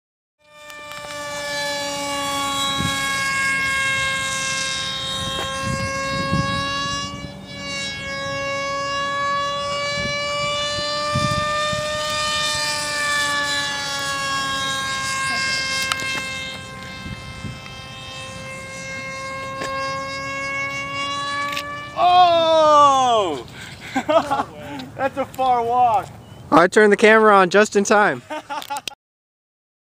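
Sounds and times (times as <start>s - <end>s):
model plane motor whining: 0.4s - 24.9s.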